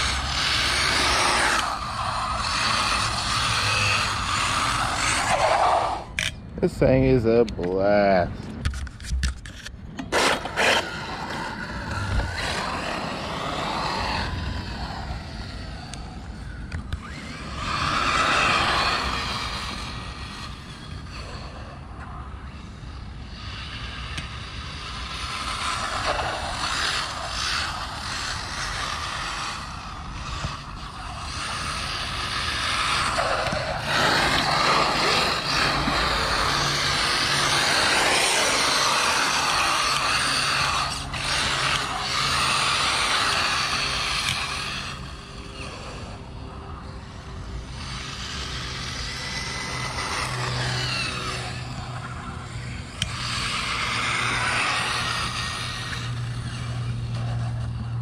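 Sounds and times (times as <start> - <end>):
gear and tyre noise on concrete: 0.0 - 58.0
rc car motor whine: 0.0 - 58.0.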